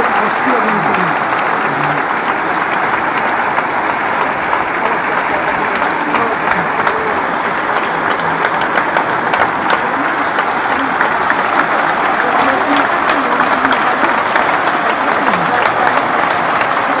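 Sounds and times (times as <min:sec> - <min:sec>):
audience applauding: 0:00.0 - 0:17.0
voices: 0:00.0 - 0:17.0.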